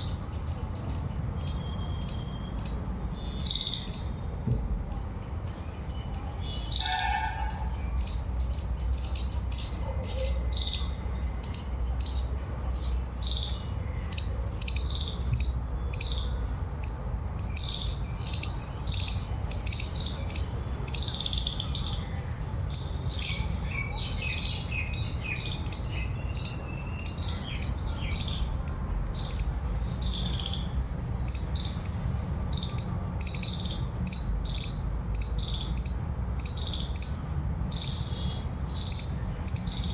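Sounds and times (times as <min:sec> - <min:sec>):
bird chirps: 0:00.0 - 0:04.2, 0:04.9 - 0:22.1, 0:22.7 - 0:32.0, 0:32.6 - 0:39.9
high-pitched insect drone: 0:00.0 - 0:39.9.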